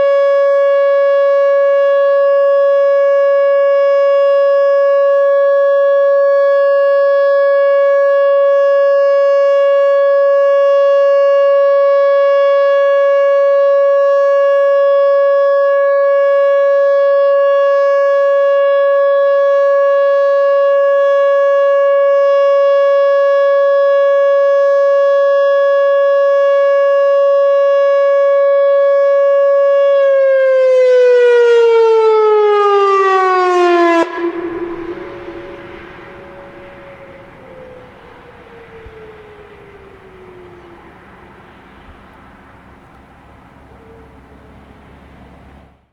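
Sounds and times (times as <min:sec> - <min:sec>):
steady warning siren tone: 0:00.0 - 0:45.9.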